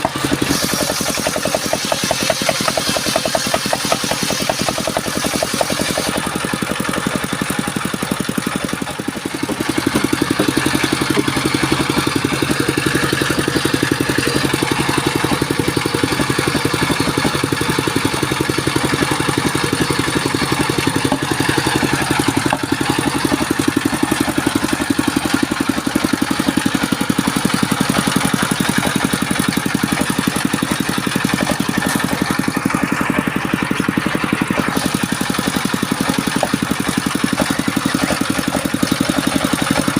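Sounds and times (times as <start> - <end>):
circular saw engine running: 0.0 - 39.9.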